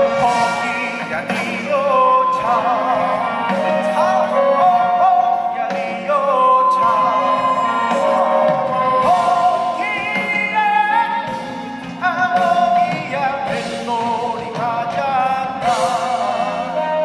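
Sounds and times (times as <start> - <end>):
military band music: 0.0 - 17.0
person singing with vibrato: 0.0 - 17.0.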